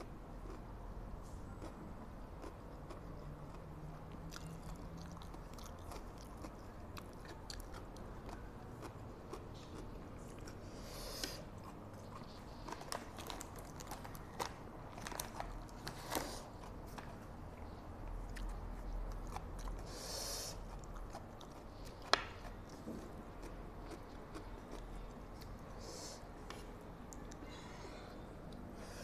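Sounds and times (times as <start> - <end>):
chewing noodles: 0.0 - 25.8.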